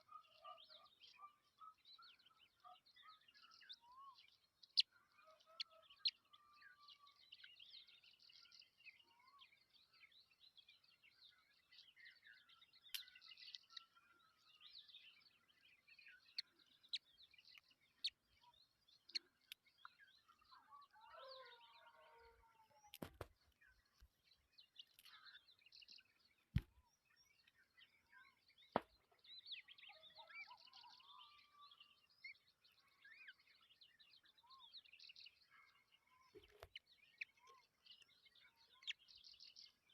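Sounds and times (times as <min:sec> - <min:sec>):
faint bird chirping: 0:00.0 - 0:39.9.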